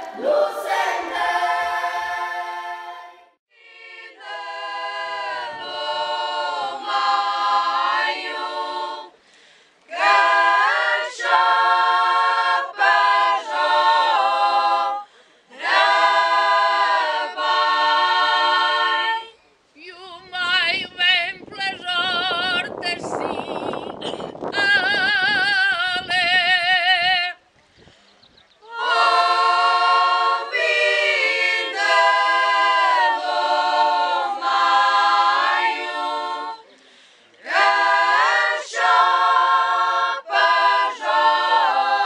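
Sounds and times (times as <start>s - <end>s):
female choir singing a cappella: 0.0s - 9.2s, 9.9s - 27.4s, 28.6s - 42.0s.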